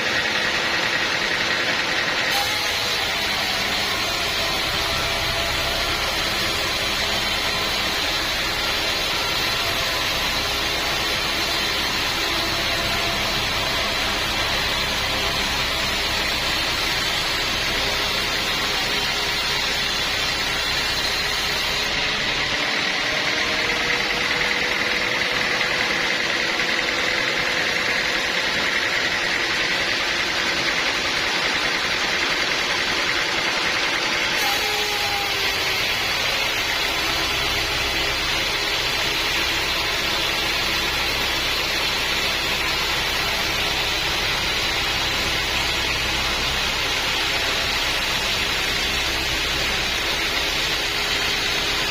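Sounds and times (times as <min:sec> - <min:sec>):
portable sawmill running: 0:00.0 - 0:51.9
steady high whine: 0:00.0 - 0:51.9.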